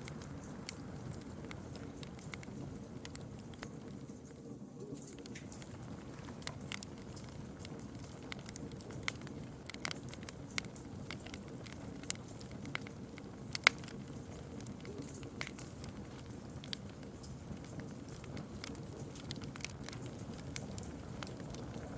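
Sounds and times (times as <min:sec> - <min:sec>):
campfire crackling and popping: 0:00.0 - 0:21.9
low flame noise: 0:00.0 - 0:21.9.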